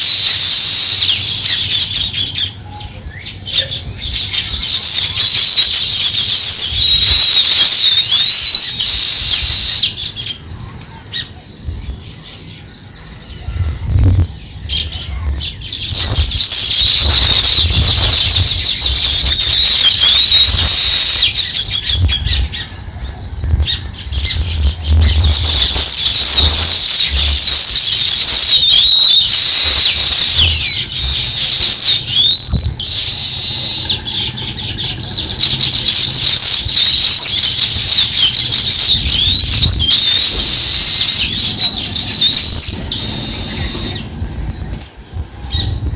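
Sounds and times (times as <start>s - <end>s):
sparrows chirping: 0.0s - 45.9s.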